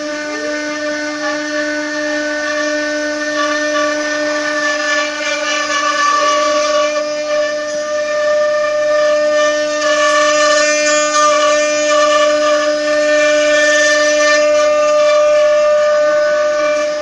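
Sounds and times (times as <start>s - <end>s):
hiss of wood cutting: 0.0s - 17.0s
spindle motors whining: 0.0s - 17.0s.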